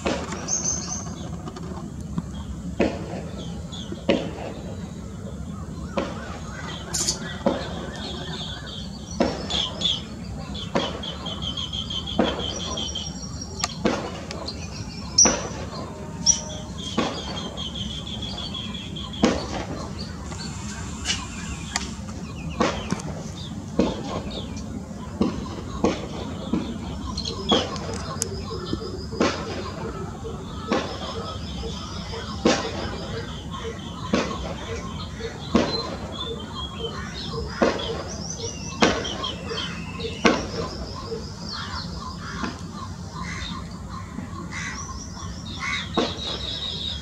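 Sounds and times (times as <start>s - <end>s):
birds calling in high trills: 0.0s - 47.0s.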